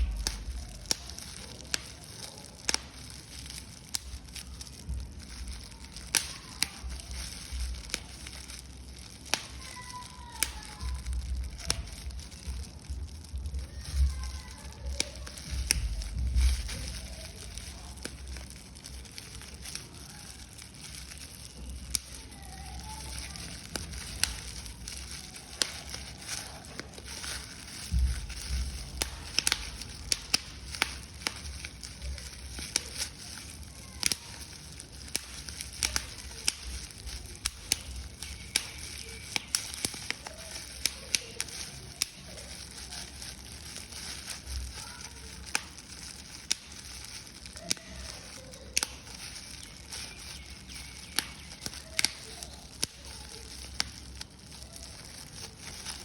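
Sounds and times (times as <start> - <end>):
paper being crumpled: 0.0 - 56.0.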